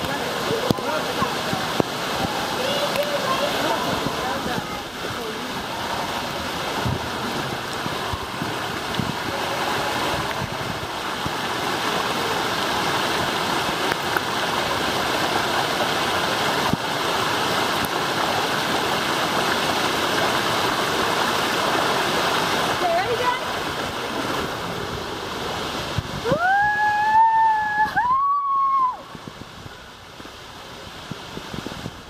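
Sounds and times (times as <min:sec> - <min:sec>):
water rushing down waterslide: 0:00.0 - 0:32.0.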